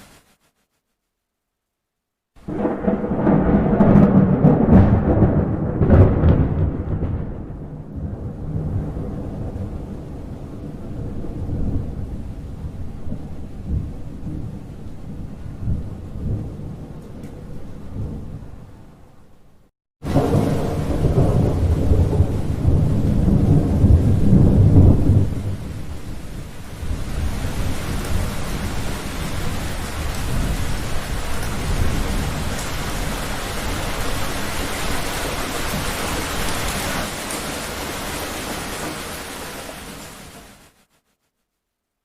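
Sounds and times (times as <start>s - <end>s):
steady rain: 0.0s - 0.8s, 2.4s - 18.9s, 20.0s - 41.1s
thunder rumbling: 2.4s - 18.9s, 20.0s - 40.4s.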